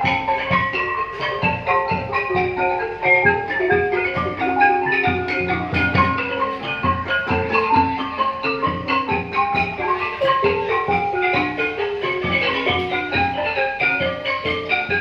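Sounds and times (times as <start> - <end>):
xylophone-like mallet instruments: 0.0 - 15.0.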